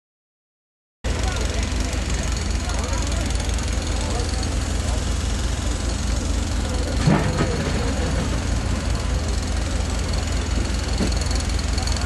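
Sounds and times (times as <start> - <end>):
construction machine engine rumbling: 1.0 - 12.0.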